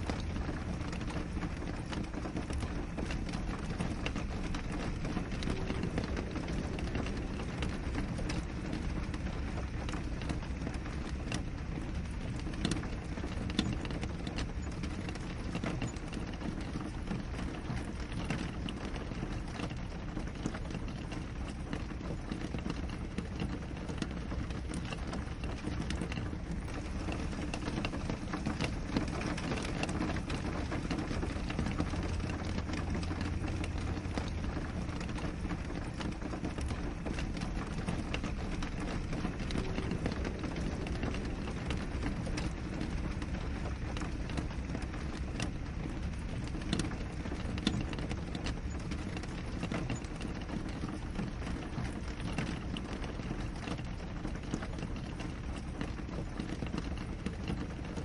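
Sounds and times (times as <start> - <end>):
continuous low rumble: 0.0 - 58.0
rain on a window: 0.0 - 58.0.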